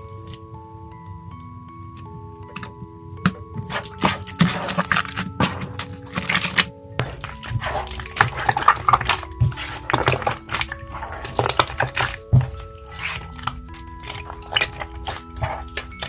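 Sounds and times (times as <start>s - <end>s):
soft background music: 0.0s - 16.0s
slime squelching and popping: 1.9s - 16.0s.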